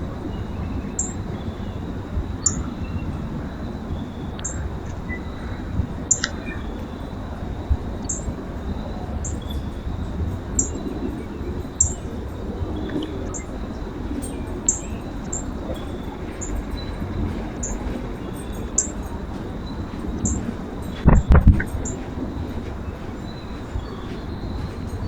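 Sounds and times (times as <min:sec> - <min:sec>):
songbirds chirping: 0:00.0 - 0:25.0
steady low rumble: 0:00.0 - 0:25.0.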